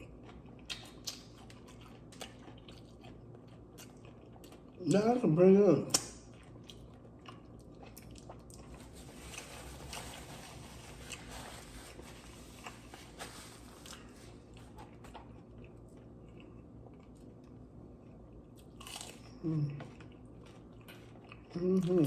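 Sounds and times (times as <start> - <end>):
person chewing crunchy food: 0.0 - 4.8, 5.9 - 22.0.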